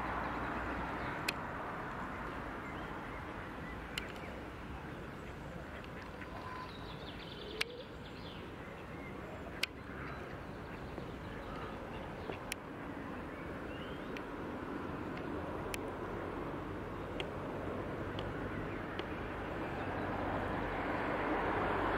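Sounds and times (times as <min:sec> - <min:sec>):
steady background noise: 0:00.0 - 0:21.9.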